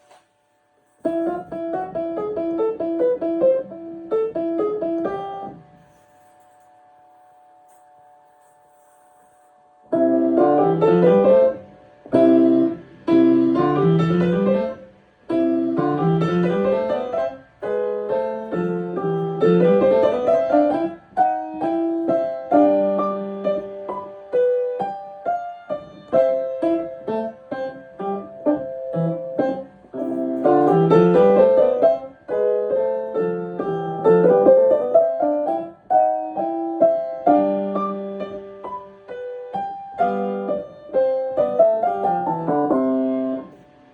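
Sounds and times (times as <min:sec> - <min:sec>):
piano practice: 0:00.0 - 0:43.9.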